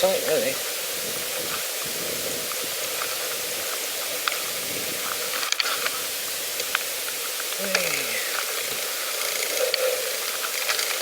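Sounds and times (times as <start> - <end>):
bicycle rolling hiss: 0.0 - 11.0.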